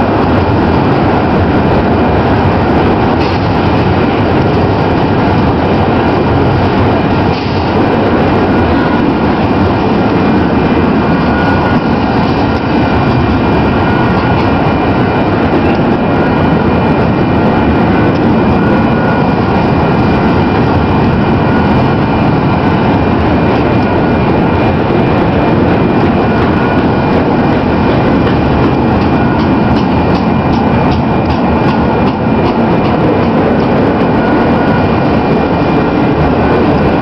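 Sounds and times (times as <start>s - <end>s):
train wheels rumbling on rails: 0.0s - 37.0s
faint high whine: 2.6s - 37.0s.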